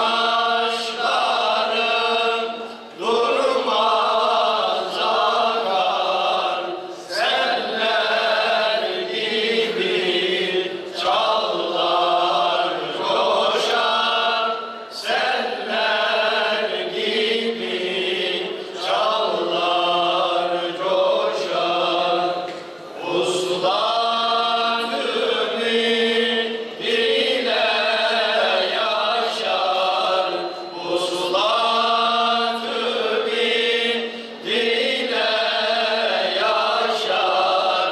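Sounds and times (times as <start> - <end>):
men singing a hymn unaccompanied: 0.0 - 37.9.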